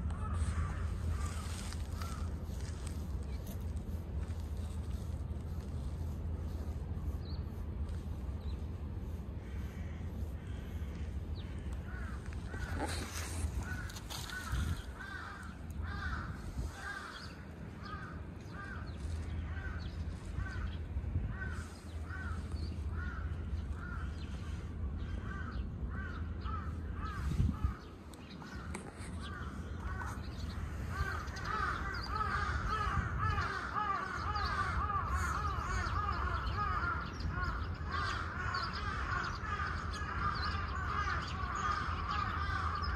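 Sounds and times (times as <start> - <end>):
low steady rumble: 0.0 - 42.9
crows cawing: 0.1 - 3.0, 9.4 - 42.9.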